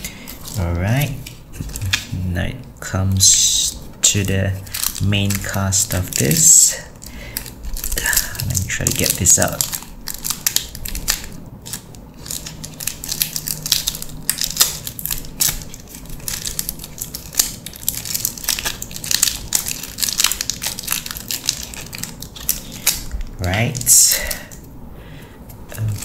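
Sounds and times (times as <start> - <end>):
plastic wrapping crinkling: 0.0 - 24.8, 25.4 - 26.0.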